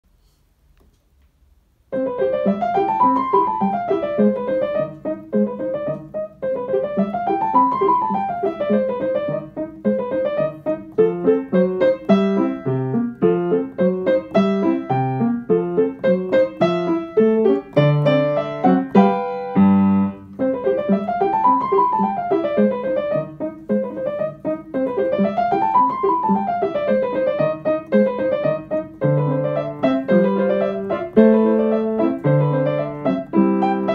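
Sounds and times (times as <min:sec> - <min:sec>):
upright piano solo: 0:01.9 - 0:33.9.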